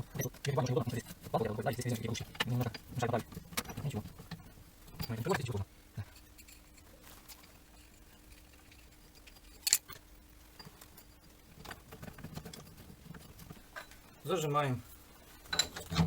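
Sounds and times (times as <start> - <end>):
soft clicks and rustles: 0.0 - 14.2
small metal tools clinking: 0.0 - 14.3, 15.4 - 16.0
faint steady hum: 0.0 - 16.0.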